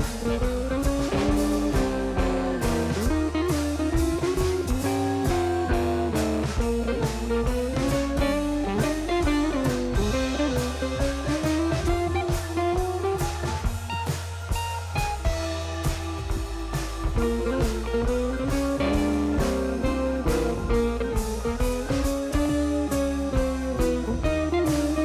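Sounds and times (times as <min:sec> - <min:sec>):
blues guitar music with drums: 0:00.0 - 0:25.0.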